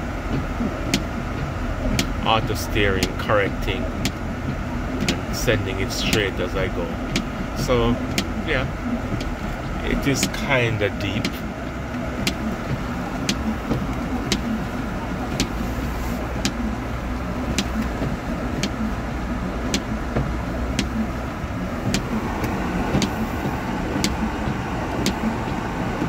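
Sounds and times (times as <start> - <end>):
car engine and tyres in snow: 0.0 - 26.0
sharp ticking: 0.9 - 26.0.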